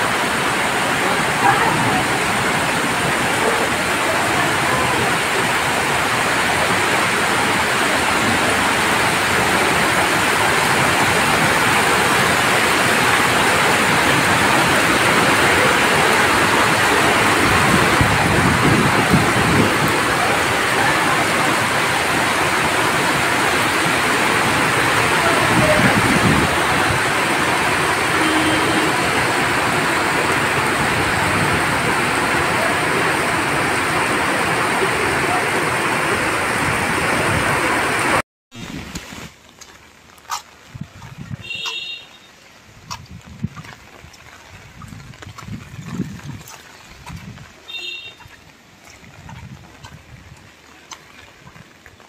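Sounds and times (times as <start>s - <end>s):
heavy rain on pavement and roofs: 0.0s - 52.0s.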